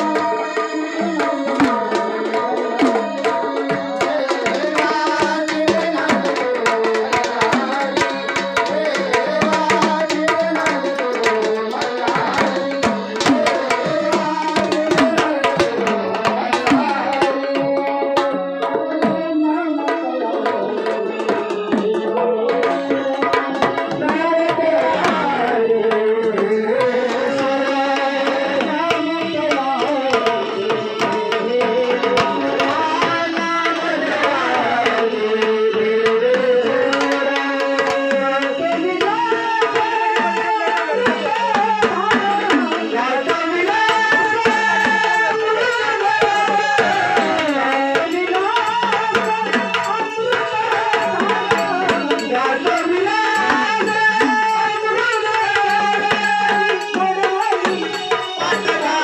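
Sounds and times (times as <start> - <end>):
stick-played drums beating: 0.0 - 59.0.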